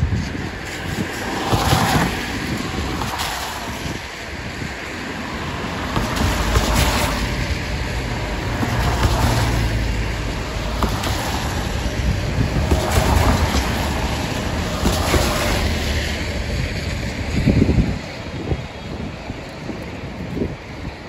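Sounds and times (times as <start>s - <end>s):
car engine rumble: 0.0s - 20.8s
tyre hiss on wet street: 0.0s - 21.0s.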